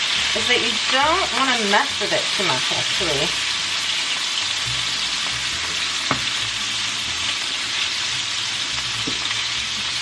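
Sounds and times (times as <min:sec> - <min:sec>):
tofu sizzling in oil: 0:00.0 - 0:10.0.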